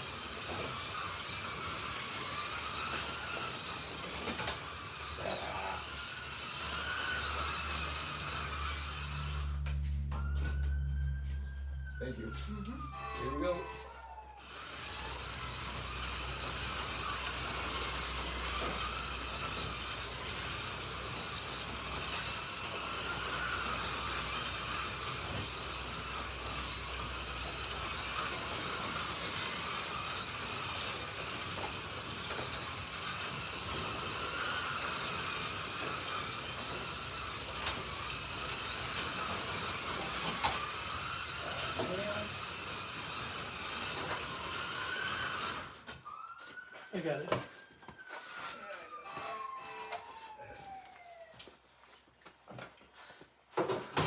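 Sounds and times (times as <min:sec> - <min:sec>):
slot car motors whining: 0:00.0 - 0:46.4, 0:47.9 - 0:51.5.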